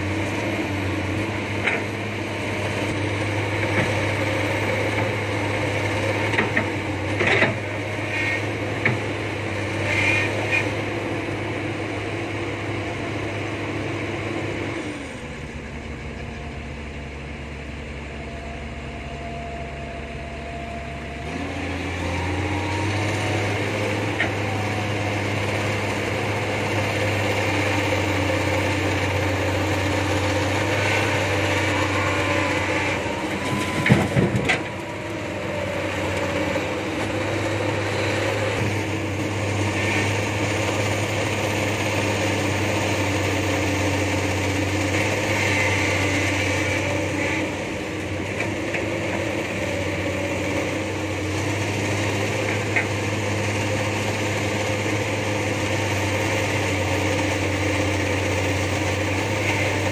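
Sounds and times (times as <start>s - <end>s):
diesel engines idling: 0.0s - 59.9s.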